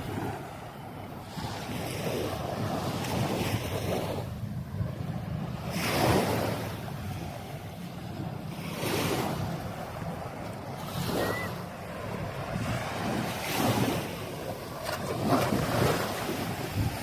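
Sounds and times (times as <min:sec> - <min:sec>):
small waves washing onto beach: 0:00.0 - 0:17.0
wind buffeting microphone: 0:00.0 - 0:17.0.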